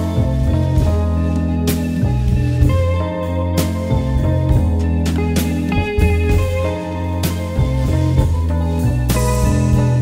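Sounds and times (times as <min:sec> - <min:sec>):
bass: 0:00.0 - 0:10.0
guitar-led music: 0:00.0 - 0:10.0
steady drum beat: 0:00.0 - 0:10.0.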